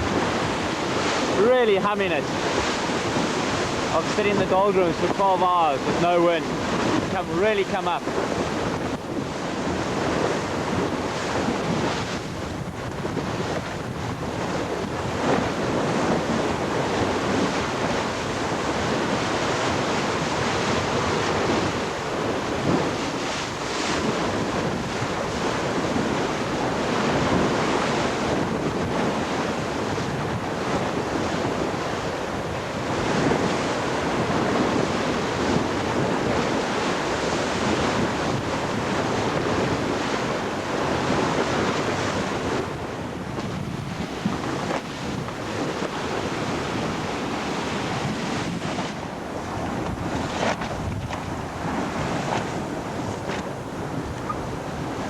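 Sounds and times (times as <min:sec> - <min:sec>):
water rushing past a hull: 0:00.0 - 0:55.0
wind buffeting the microphone: 0:00.0 - 0:55.0.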